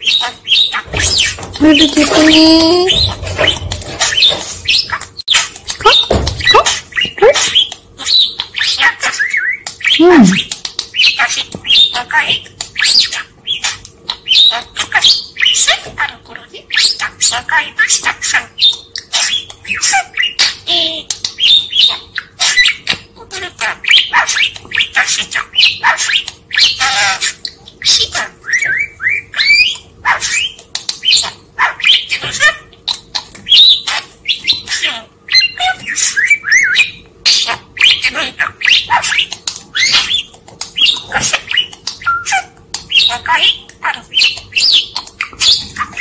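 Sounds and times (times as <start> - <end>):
budgerigar chattering and warbling: 0.0 - 46.0.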